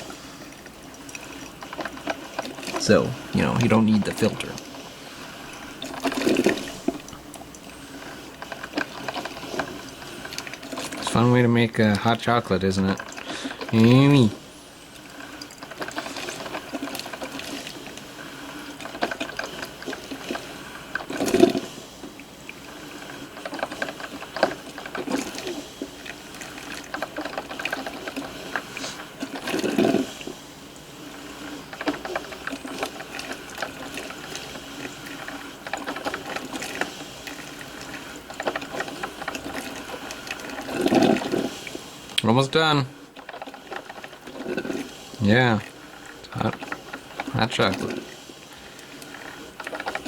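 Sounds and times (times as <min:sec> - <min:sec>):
drip coffee maker brewing: 0:00.0 - 0:50.0
hot water spitting: 0:00.0 - 0:50.0.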